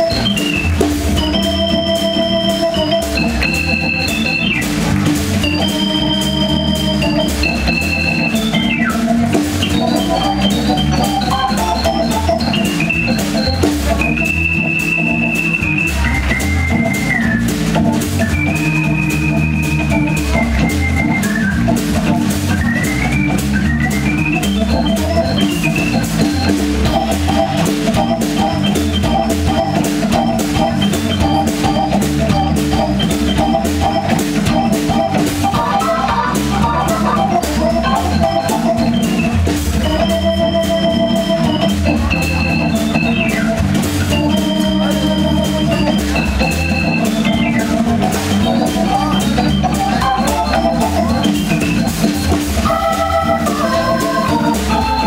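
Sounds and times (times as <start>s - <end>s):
jazz organ playing: 0.0s - 55.0s.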